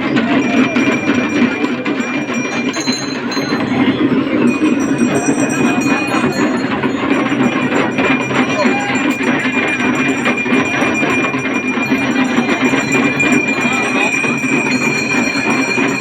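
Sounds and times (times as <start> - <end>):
hand drums rattling: 0.0 - 16.0
metallic jingling: 0.0 - 16.0.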